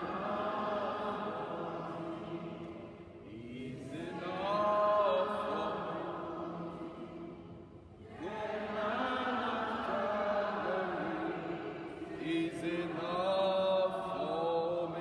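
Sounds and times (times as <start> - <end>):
voices singing worship chorus: 0.0 - 15.0.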